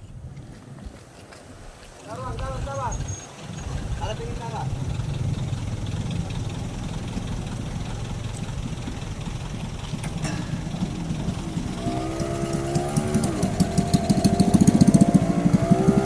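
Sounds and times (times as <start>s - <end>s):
vehicle engines rumbling: 0.0s - 16.0s
engine revving: 2.8s - 16.0s.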